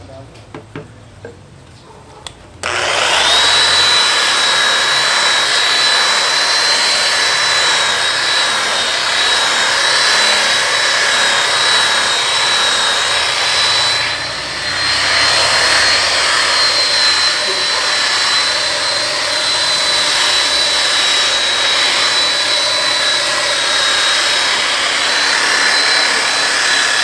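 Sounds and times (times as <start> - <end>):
electric polisher whine: 2.6 - 27.0.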